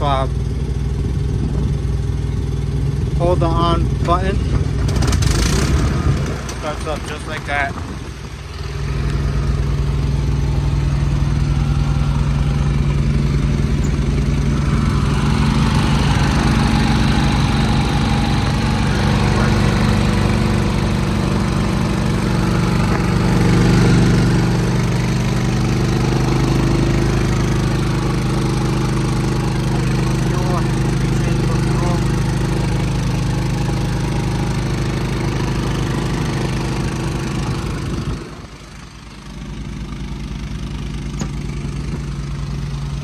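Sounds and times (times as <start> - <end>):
generator starting and running: 0.0 - 43.0.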